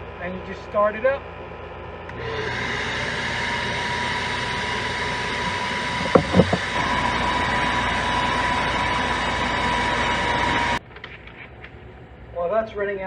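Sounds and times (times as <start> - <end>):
shop vacuum running: 0.0 - 10.8.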